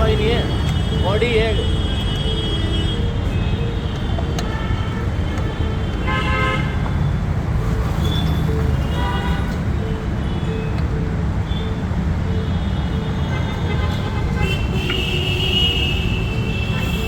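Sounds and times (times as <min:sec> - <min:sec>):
vehicle horns honking: 0:00.0 - 0:10.6, 0:12.4 - 0:17.0
road traffic rumble: 0:00.0 - 0:17.0.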